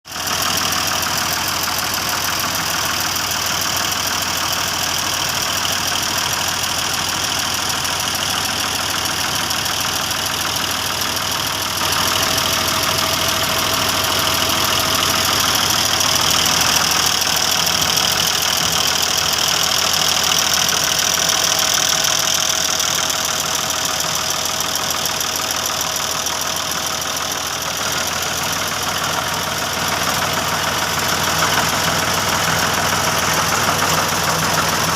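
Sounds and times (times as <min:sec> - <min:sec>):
tractor engine running: 0:00.1 - 0:34.9.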